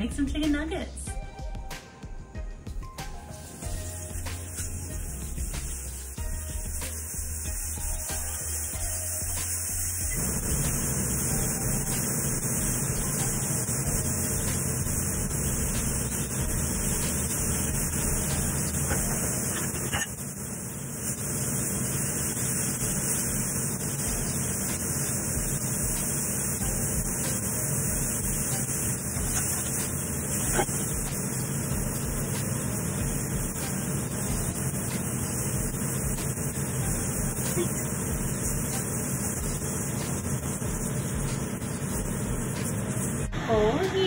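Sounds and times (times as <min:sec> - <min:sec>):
chicken sizzling in oil: 0:03.0 - 0:43.3.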